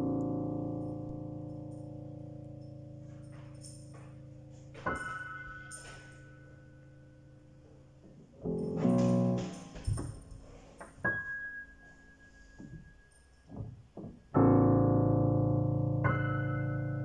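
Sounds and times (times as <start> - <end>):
piano notes ringing: 0.0 - 17.0.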